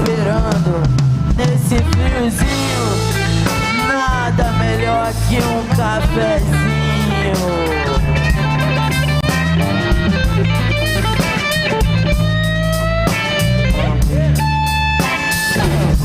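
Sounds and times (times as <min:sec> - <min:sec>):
bass and drums: 0:00.0 - 0:16.0
electric guitar with bent notes: 0:00.0 - 0:16.0.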